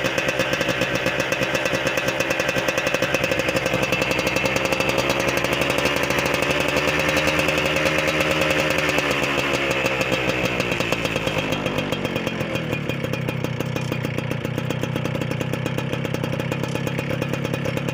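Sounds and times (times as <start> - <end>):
motorcycle engine revving and idling: 0.0 - 17.9.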